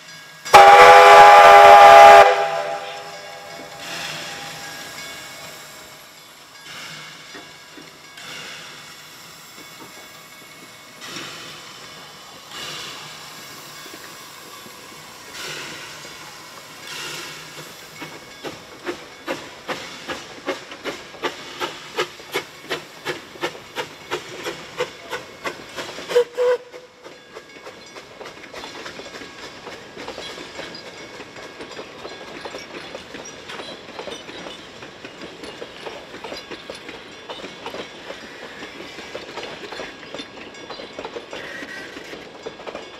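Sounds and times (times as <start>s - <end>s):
steam hiss: 0.0s - 42.9s
steam locomotive exhaust chuffs: 0.2s - 42.9s.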